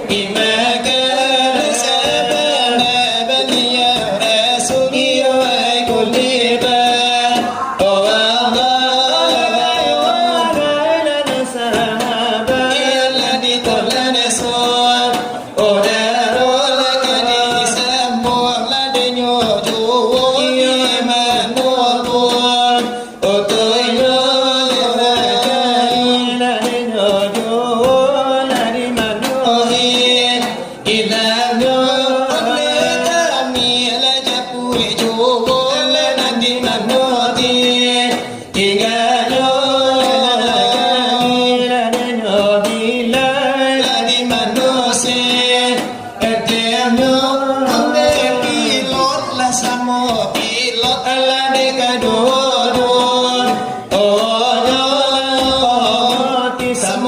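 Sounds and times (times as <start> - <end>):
men chanting devotional melody: 0.0 - 57.0.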